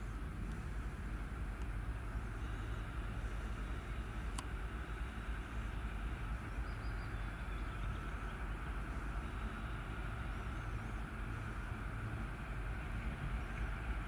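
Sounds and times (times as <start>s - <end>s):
constant hiss: 0.0s - 14.0s
diesel locomotive rumble: 0.0s - 14.0s.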